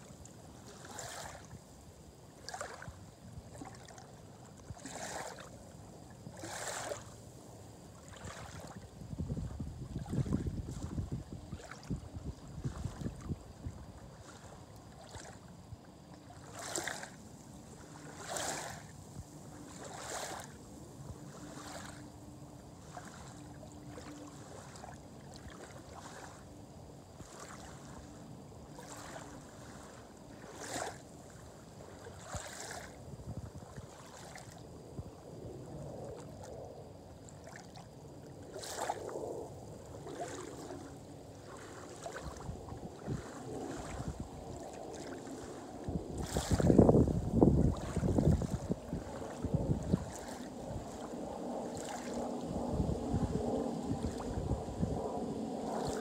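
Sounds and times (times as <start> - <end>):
small waves lapping and splashing: 0.0 - 56.0
wind rumble on microphone: 0.0 - 56.0.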